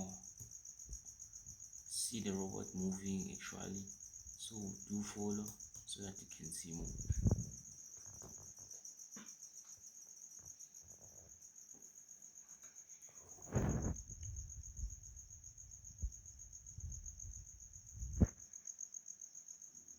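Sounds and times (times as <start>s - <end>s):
cricket chirping: 0.0s - 19.9s.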